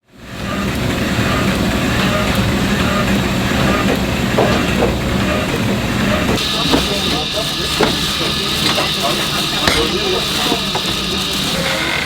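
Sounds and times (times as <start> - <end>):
machine humming: 0.1 - 12.0.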